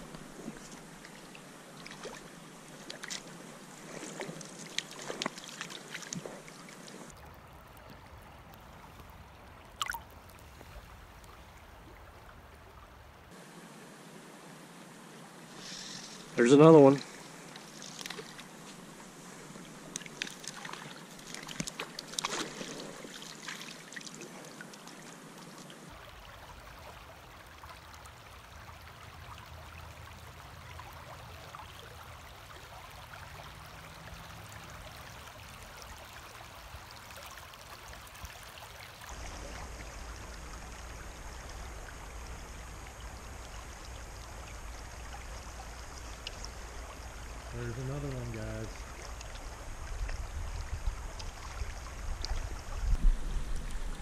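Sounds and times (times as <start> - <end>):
river running over gravel: 0.0 - 54.0
water splashes: 0.0 - 54.0.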